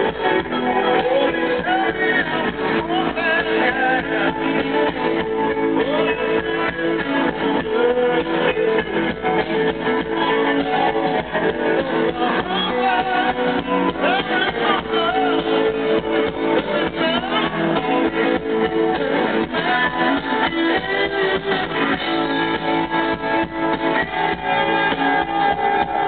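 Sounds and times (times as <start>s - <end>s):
rock band playing: 0.0s - 26.0s
strummed guitar: 0.0s - 26.0s.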